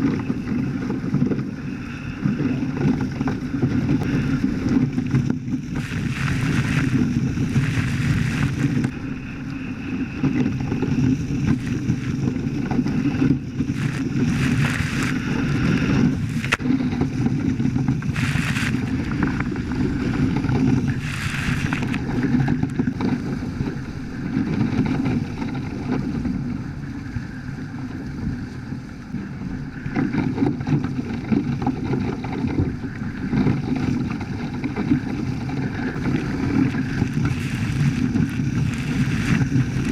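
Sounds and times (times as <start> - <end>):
water rushing past hulls: 0.0 - 39.9
wind buffeting microphone: 0.0 - 39.9.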